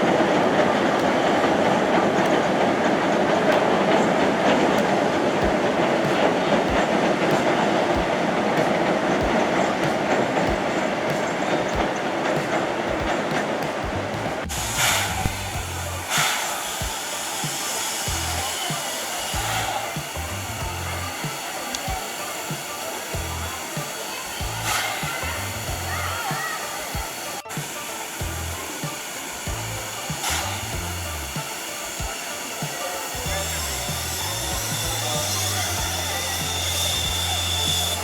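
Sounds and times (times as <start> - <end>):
loud rushing hiss: 0.0 - 38.0
music playing: 0.0 - 38.0.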